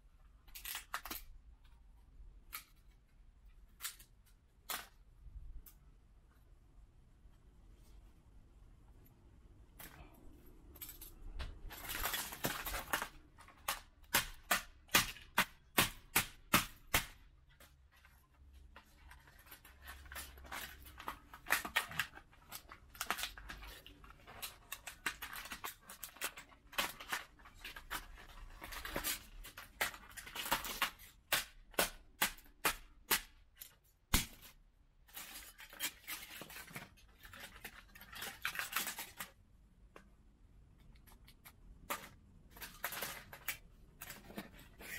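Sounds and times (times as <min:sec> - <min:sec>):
plastic crackling and scraping: 0:00.2 - 0:05.8, 0:09.7 - 0:44.9.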